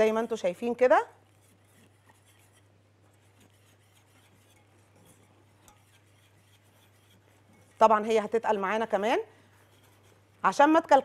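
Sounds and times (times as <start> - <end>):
whisk scraping saucepan: 0.0 - 10.8.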